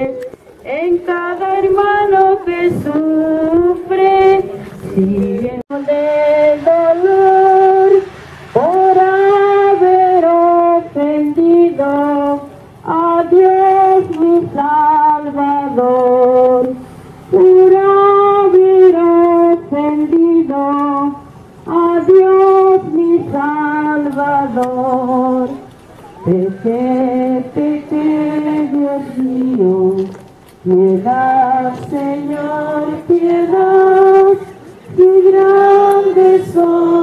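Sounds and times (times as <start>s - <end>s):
women singing a hymn: 0.0s - 37.0s.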